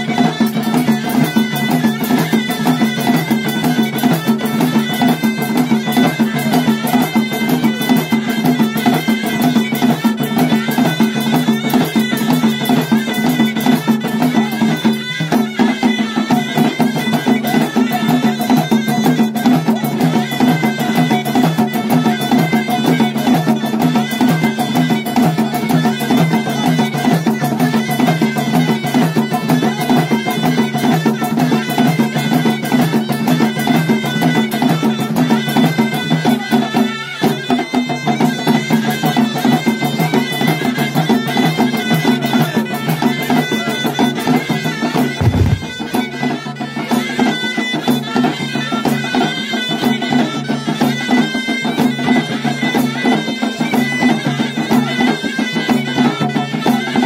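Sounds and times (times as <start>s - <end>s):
drums and hand percussion: 0.0s - 57.0s.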